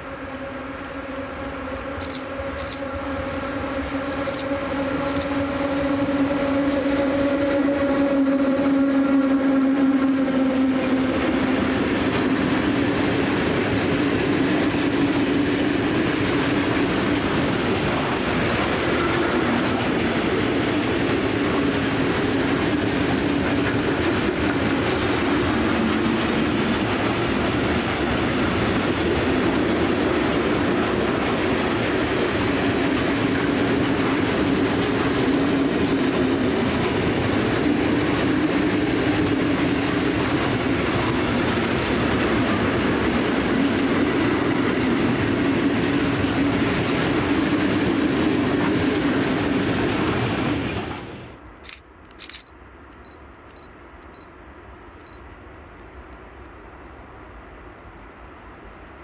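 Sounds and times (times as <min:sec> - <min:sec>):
electric locomotive droning: 0:00.0 - 0:50.7.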